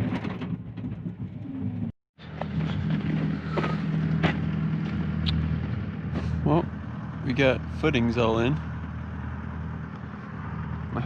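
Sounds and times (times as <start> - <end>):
track loader engine running: 0.0 - 11.0.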